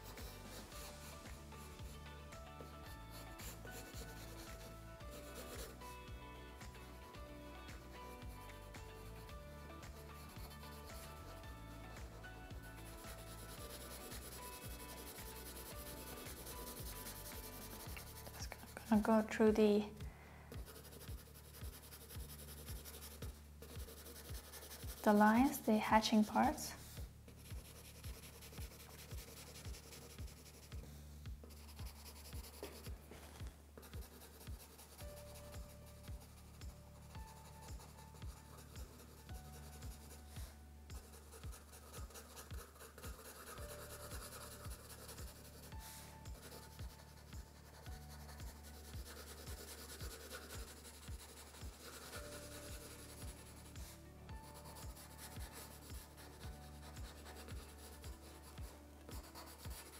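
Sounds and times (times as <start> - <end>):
pencil scratching on paper: 0.0 - 19.3, 20.6 - 59.9
quiet background music: 0.0 - 59.9.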